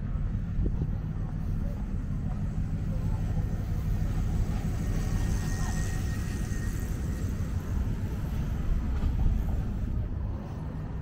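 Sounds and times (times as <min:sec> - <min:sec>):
faint road traffic: 0:00.0 - 0:11.0
low street rumble: 0:00.0 - 0:11.0.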